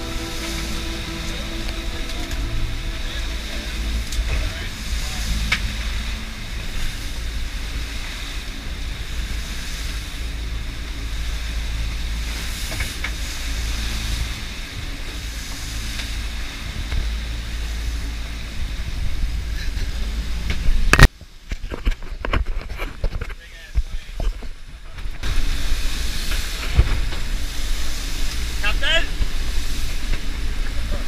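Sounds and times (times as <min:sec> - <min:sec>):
water rushing along hull: 0:00.0 - 0:31.0
wind buffeting microphone: 0:00.0 - 0:31.0.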